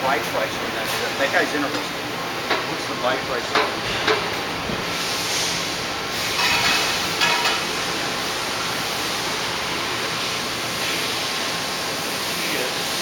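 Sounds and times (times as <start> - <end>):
machine-shop background hiss: 0.0 - 13.0.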